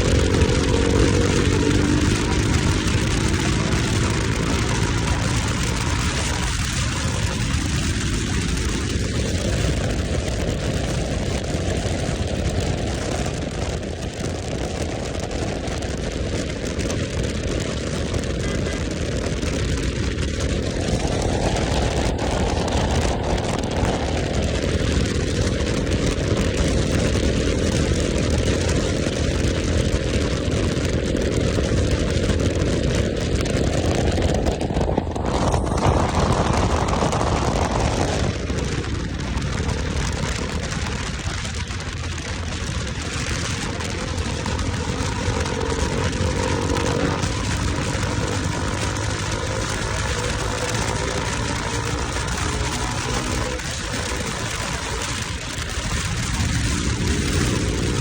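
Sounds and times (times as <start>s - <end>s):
motorcycle engine running: 0.0s - 58.0s
rushing wind noise: 0.0s - 58.0s.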